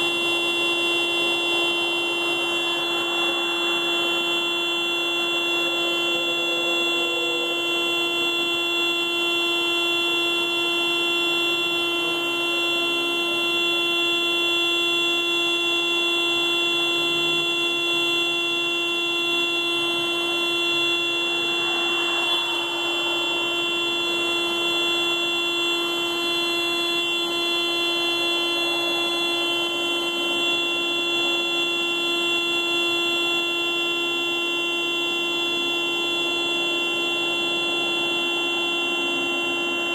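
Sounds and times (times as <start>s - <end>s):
car alarm continuous tone: 0.0s - 39.9s.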